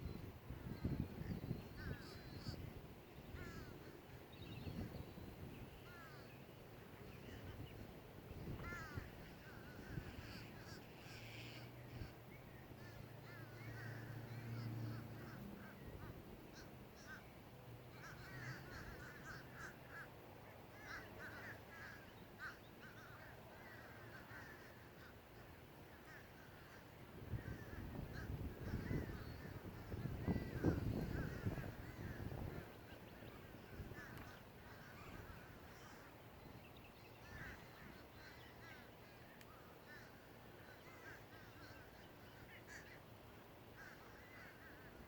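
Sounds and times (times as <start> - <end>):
birds calling: 0.0 - 45.0.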